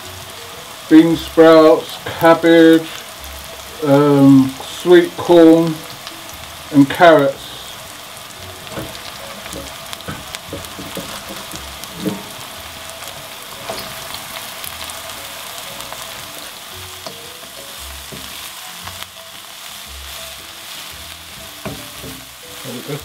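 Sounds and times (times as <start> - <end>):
vegetables sizzling in a wok: 0.0 - 23.0.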